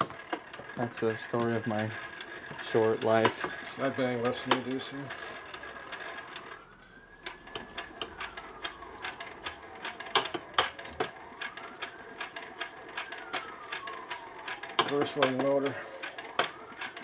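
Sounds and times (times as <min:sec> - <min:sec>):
gear teeth clicking and clacking: 0:00.0 - 0:17.0.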